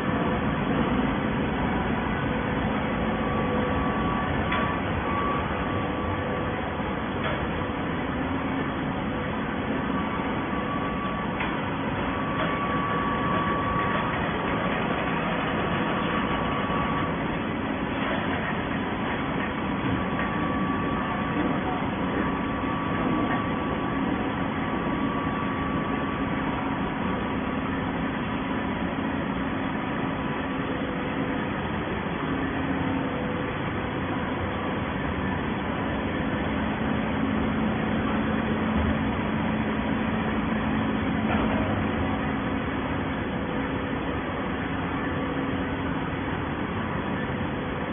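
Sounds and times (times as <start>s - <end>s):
hydraulic baler humming: 0.0s - 47.9s.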